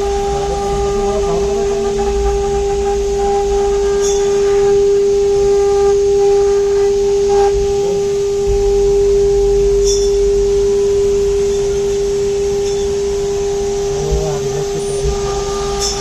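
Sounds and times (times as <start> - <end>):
low machine rumble: 0.0 - 16.0
router spindle whine: 0.0 - 16.0.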